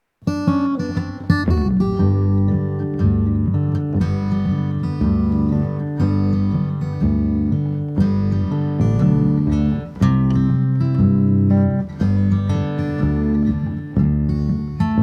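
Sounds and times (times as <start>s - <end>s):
acoustic guitar strumming chords: 0.2s - 15.0s.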